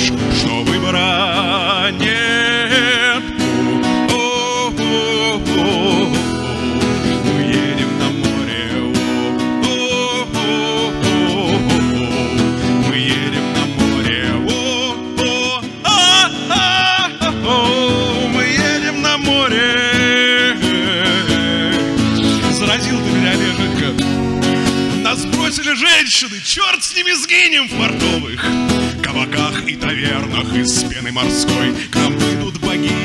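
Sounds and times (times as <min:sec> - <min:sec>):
acoustic guitars strumming: 0:00.0 - 0:33.0
man singing: 0:00.0 - 0:33.0.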